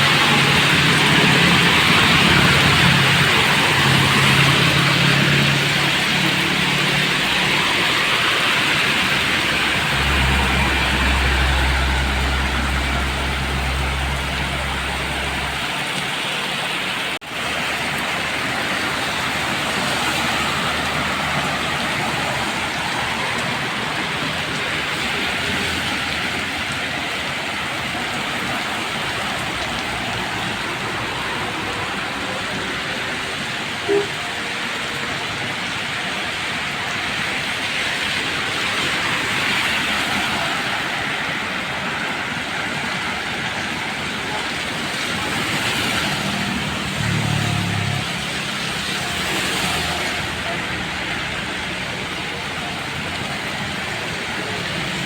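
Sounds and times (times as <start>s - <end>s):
vehicle engine hum: 0.0s - 34.2s, 38.3s - 55.0s
rain hissing: 0.0s - 55.0s
traffic on wet road: 0.0s - 55.0s.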